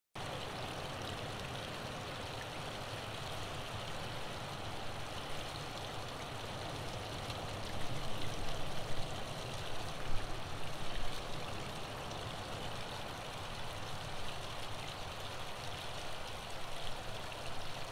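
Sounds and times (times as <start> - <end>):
waterfall over rocks: 0.2 - 17.9.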